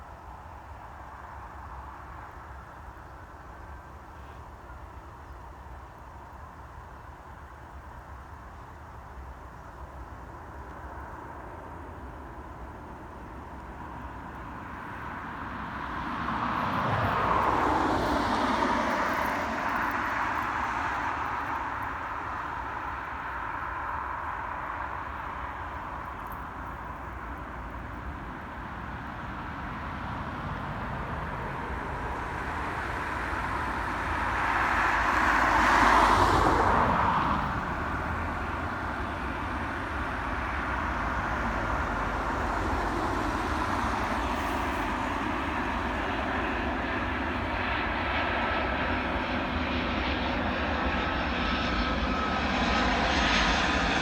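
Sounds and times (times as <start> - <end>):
steady engine rumble: 9.2 - 54.0
vehicles passing by: 10.4 - 54.0.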